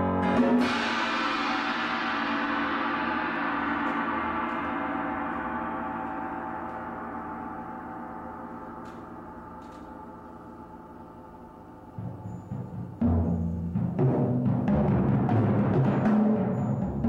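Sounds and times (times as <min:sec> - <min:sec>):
cymbal ringing: 0:00.0 - 0:13.8.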